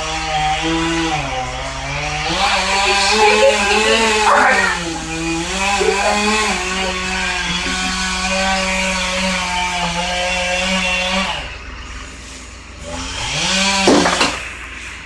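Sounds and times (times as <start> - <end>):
chainsaw revving and idling: 0.0 - 11.6, 12.8 - 14.5.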